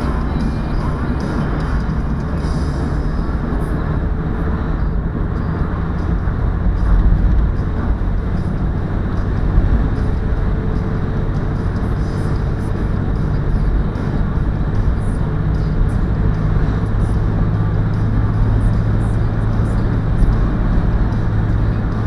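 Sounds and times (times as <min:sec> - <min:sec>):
car engine cruising: 0:00.0 - 0:22.0
tyre and road noise: 0:00.0 - 0:22.0.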